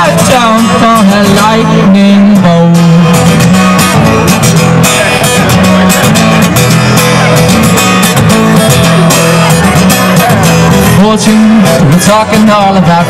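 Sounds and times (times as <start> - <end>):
guitar strummed through pa: 0.0 - 13.0.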